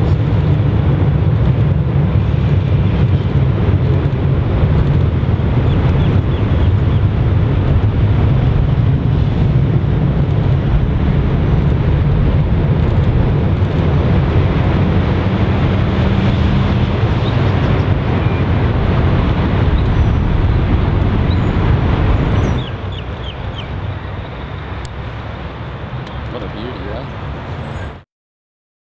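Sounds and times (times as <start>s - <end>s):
jet engines rumbling at take-off: 0.0s - 28.1s.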